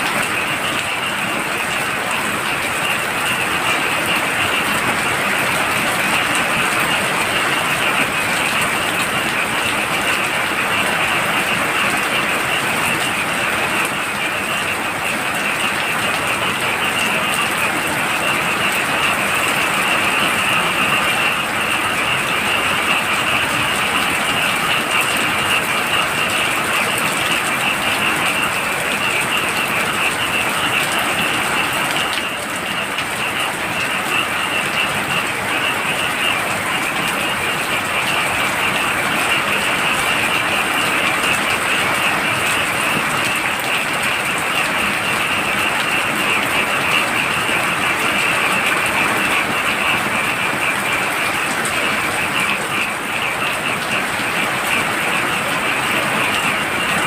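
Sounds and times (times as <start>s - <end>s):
frogs trilling: 0.0s - 57.0s
heavy rain: 0.0s - 57.0s.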